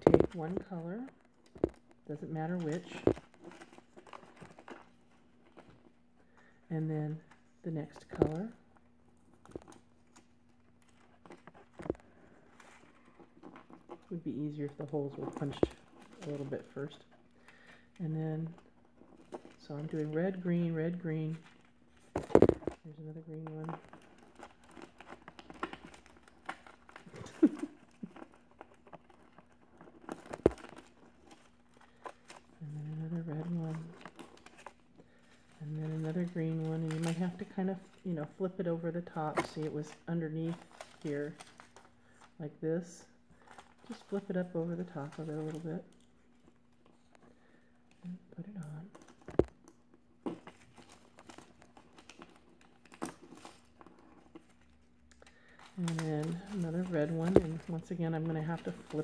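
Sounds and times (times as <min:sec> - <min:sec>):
foil crinkling and rustling: 0:00.0 - 0:42.4, 0:43.0 - 0:59.0
small clicks and crackles: 0:00.0 - 0:59.0.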